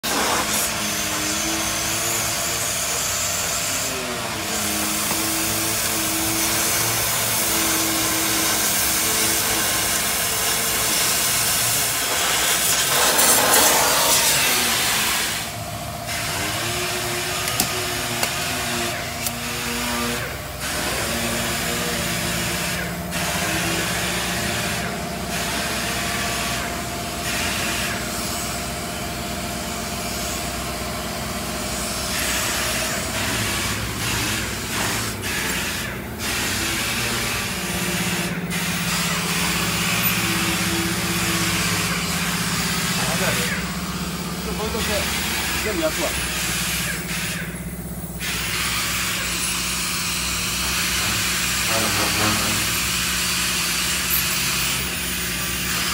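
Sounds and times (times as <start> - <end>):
cutting torch hissing: 0.0 - 29.0, 29.7 - 55.9.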